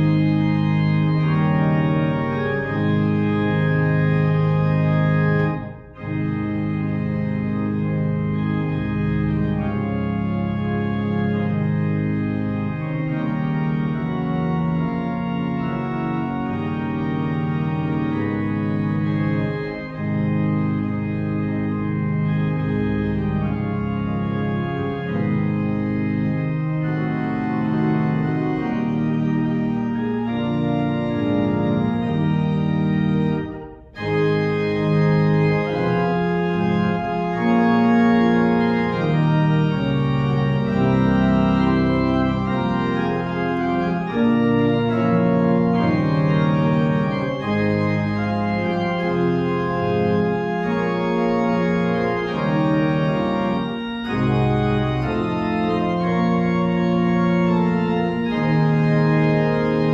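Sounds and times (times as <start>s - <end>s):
organ playing sustained chords: 0.0s - 59.9s.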